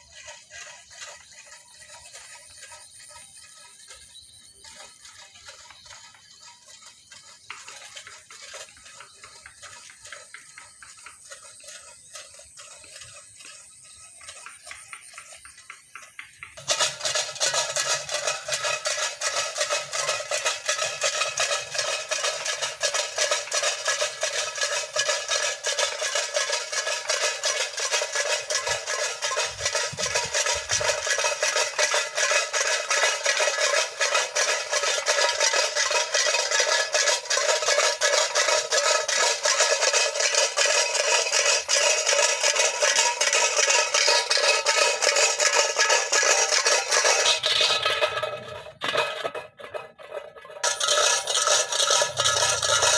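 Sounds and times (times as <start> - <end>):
tin cans with stones rattling: 0.0 - 52.9.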